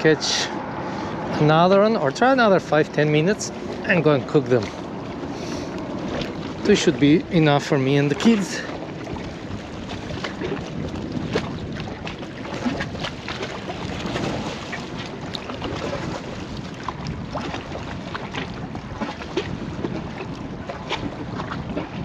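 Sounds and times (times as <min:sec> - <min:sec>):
waves lapping against rocks: 0:00.0 - 0:22.0
wind buffeting microphone: 0:00.0 - 0:22.0.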